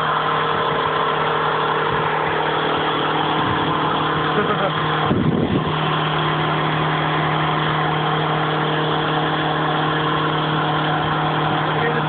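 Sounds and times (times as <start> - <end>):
diesel engine at high revs: 0.0 - 12.0.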